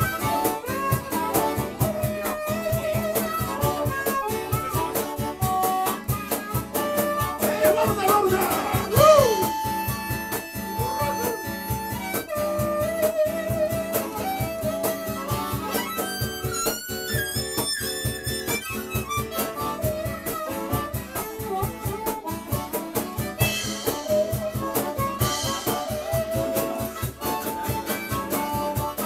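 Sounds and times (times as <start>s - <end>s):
amplified blues harmonica: 0.0s - 29.0s
band playing a steady beat: 0.0s - 29.0s.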